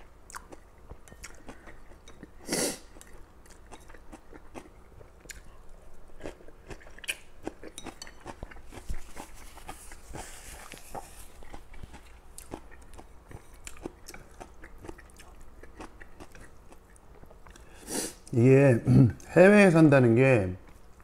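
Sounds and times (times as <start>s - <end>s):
man chewing noodles: 0.0s - 18.4s.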